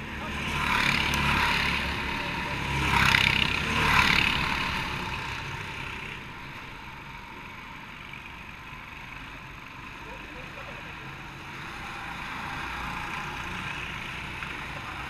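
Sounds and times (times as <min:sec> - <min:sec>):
go-kart engines passing: 0:00.0 - 0:15.0.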